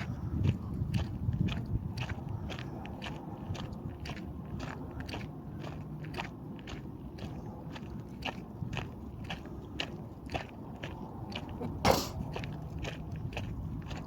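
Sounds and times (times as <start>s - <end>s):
footsteps crunching on a trail: 0.0s - 14.0s.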